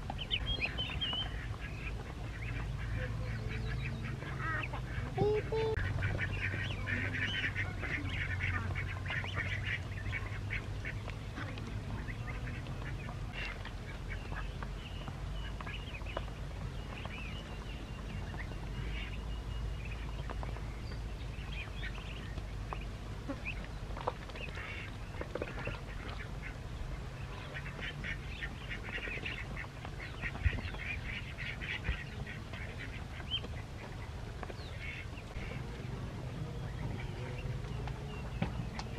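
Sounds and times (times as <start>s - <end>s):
ducks quacking: 0.3s - 16.3s, 21.4s - 38.9s.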